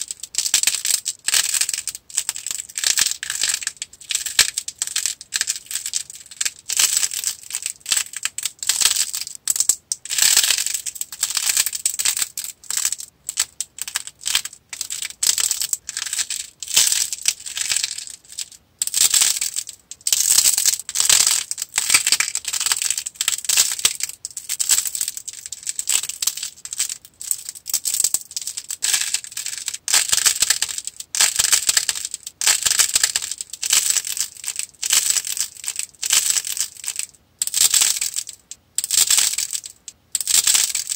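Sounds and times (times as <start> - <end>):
modelling clay crackling: 0.0 - 40.9.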